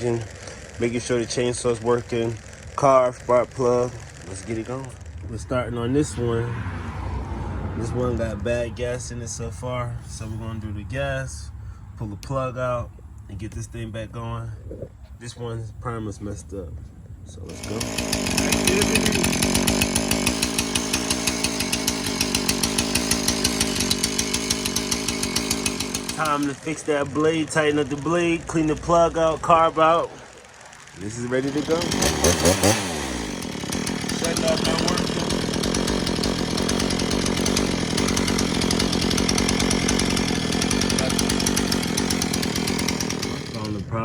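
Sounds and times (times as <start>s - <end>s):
chainsaw engine running: 0.0s - 11.8s, 17.4s - 44.0s.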